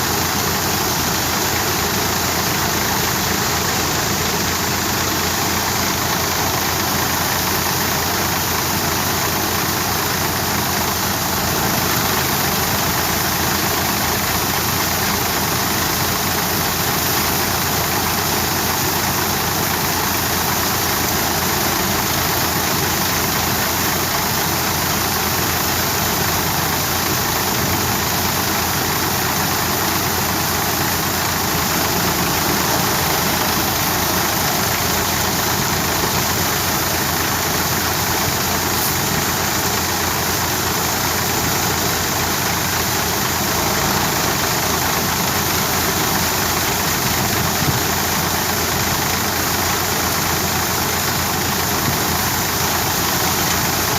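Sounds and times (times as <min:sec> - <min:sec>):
tractor and threshing machine din: 0:00.0 - 0:53.9.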